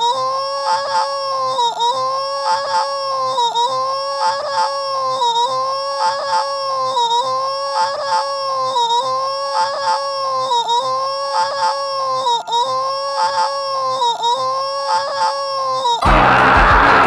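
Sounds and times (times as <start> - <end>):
cartoon woman wailing: 0.0 - 16.1.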